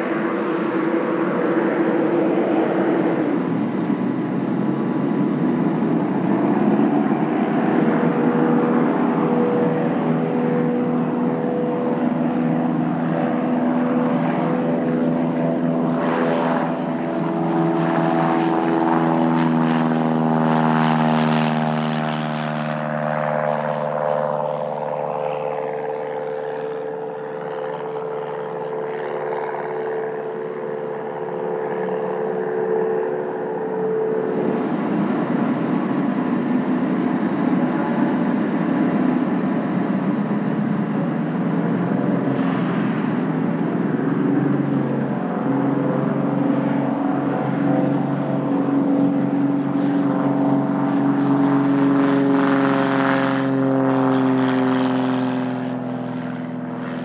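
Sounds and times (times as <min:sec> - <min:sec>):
light aircraft engine droning: 0:00.0 - 0:57.0
rough aircraft engine on runway: 0:00.0 - 0:57.0.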